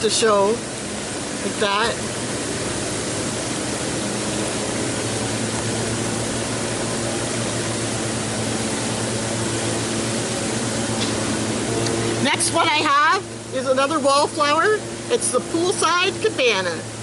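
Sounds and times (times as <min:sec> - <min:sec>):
hot tub jets churning water: 0:00.0 - 0:17.0
steady low hum: 0:00.0 - 0:17.0.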